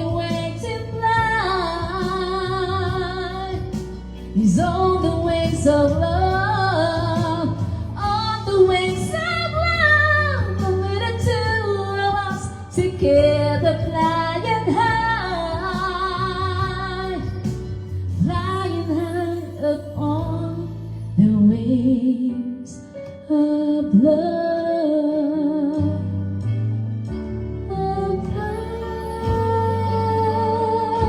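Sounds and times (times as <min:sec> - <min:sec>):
woman singing with vibrato: 0:00.0 - 0:26.0, 0:27.7 - 0:31.0.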